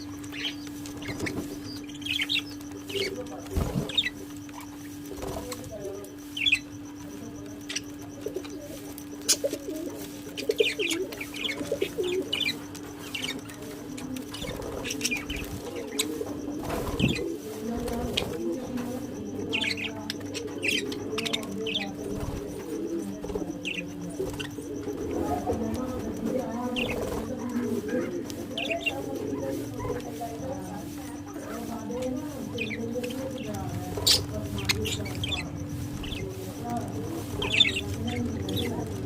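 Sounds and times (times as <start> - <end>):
parrots chirping: 0.0 - 39.0.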